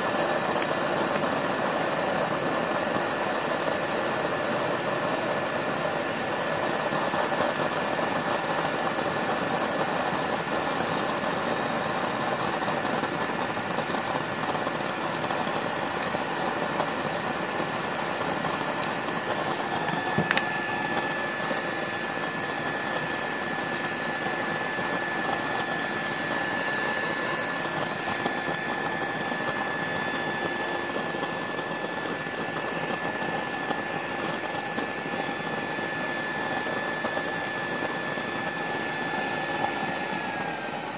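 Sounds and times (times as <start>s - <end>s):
blower air rushing: 0.0s - 40.9s
high whine: 0.0s - 40.9s.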